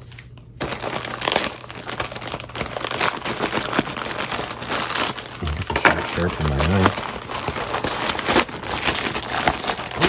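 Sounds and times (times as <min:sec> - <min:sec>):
plastic film crinkling: 0:00.0 - 0:10.0.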